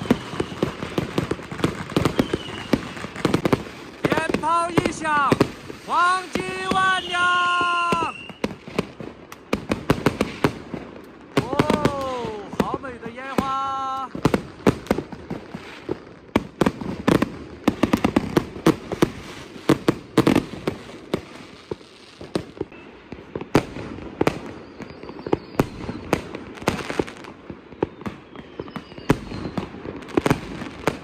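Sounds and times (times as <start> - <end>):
firecracker crackle: 0.0 - 31.0
fireworks bangs: 0.0 - 31.0.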